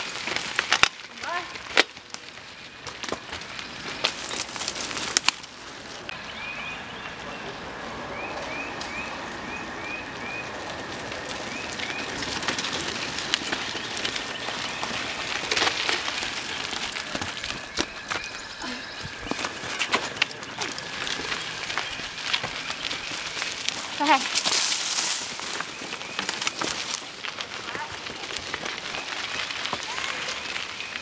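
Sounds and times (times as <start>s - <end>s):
bike clicks and rattles: 0.0s - 6.1s, 10.2s - 31.0s
bike tyres crunching over leaves: 0.0s - 31.0s.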